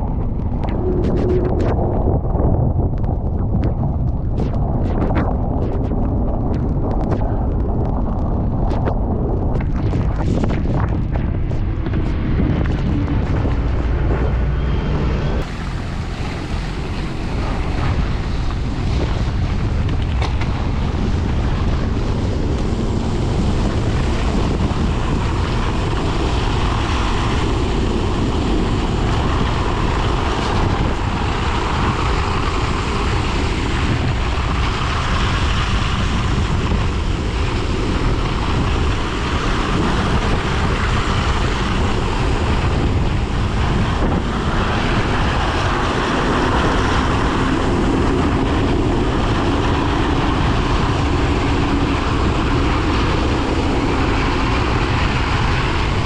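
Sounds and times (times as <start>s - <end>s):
road noise: 0.0s - 4.6s, 6.1s - 56.0s
wind roaring over microphone: 0.0s - 56.0s.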